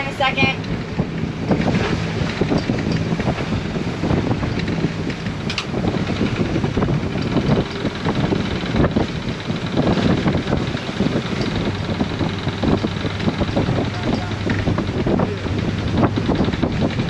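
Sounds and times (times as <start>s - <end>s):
boat engine running: 0.0s - 17.0s
wind noise on microphone: 0.0s - 17.0s
knocks and clicks: 0.6s - 17.0s.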